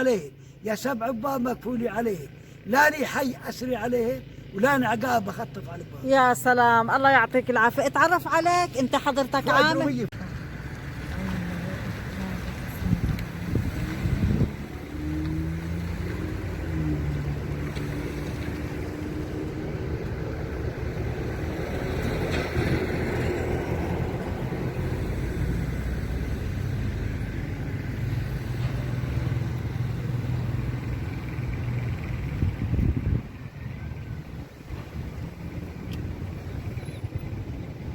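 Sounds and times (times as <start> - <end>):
road noise: 0.0 - 37.9
vehicle engine running: 0.1 - 37.9.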